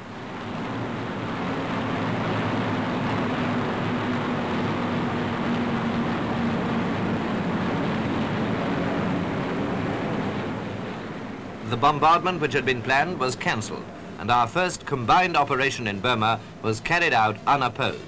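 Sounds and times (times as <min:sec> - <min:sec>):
propeller aircraft engine droning: 0:00.0 - 0:18.0.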